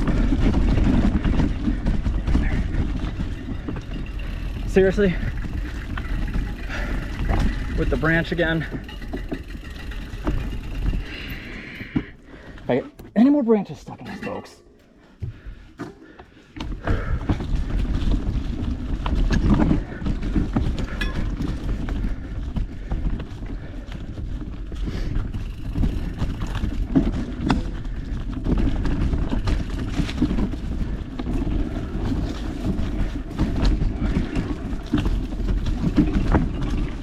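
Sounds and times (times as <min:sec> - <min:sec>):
bike clattering over bumps: 0:00.0 - 0:13.1, 0:15.3 - 0:37.0
tyres rumbling on dirt: 0:00.0 - 0:13.4, 0:16.9 - 0:37.0.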